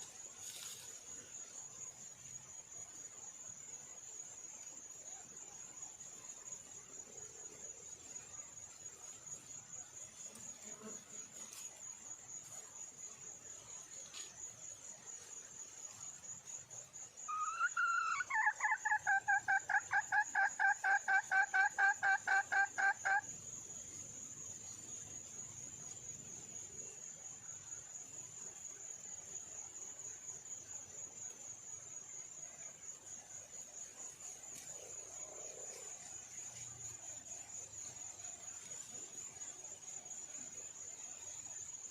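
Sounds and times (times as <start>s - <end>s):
insect trill: 0.0s - 41.9s.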